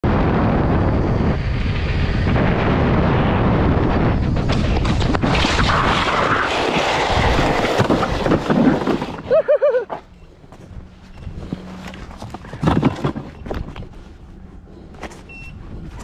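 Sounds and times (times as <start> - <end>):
wind rush on microphone: 0.0 - 9.2, 10.8 - 16.0
rider sliding on asphalt: 0.1 - 16.0.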